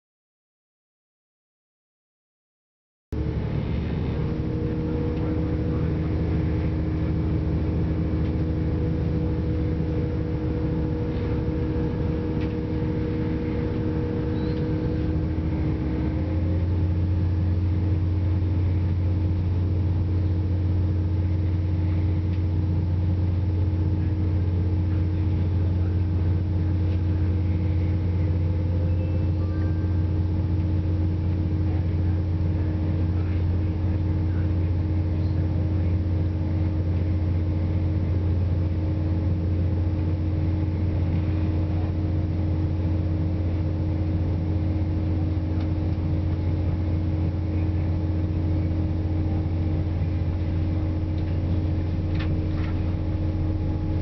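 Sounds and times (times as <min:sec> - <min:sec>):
train diesel engine drone: 0:03.1 - 0:54.0.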